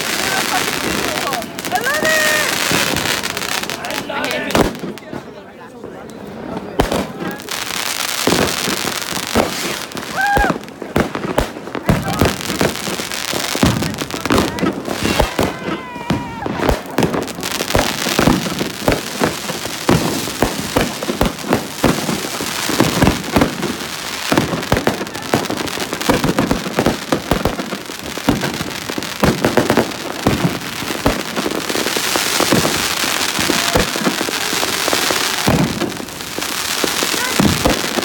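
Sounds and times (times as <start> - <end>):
fireworks bangs and pops: 0.0 - 38.0
crackling hiss: 6.0 - 38.0.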